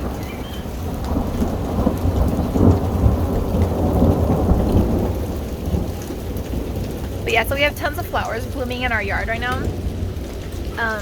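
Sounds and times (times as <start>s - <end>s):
rain and hail falling: 0.0s - 11.0s
rolling thunder: 0.0s - 11.0s.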